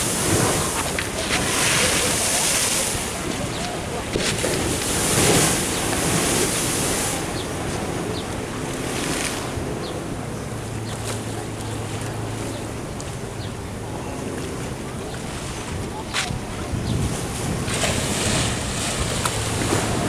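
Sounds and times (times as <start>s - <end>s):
waves washing against sea wall: 0.0s - 20.0s
wind buffeting microphone: 0.0s - 20.0s.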